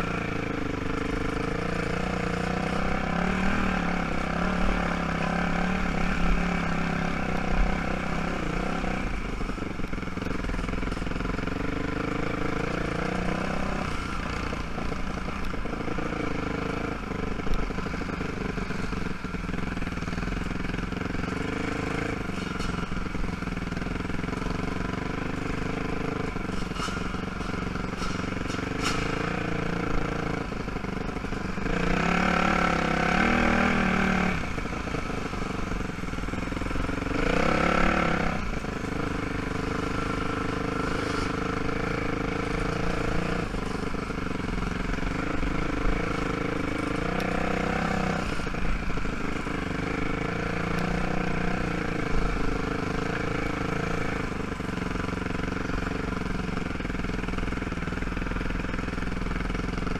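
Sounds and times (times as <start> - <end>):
quad engine running: 0.0 - 59.9.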